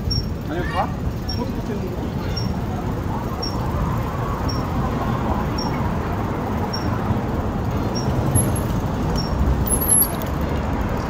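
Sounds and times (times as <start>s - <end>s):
street traffic: 0.0s - 11.0s
wind and rolling noise: 0.0s - 11.0s.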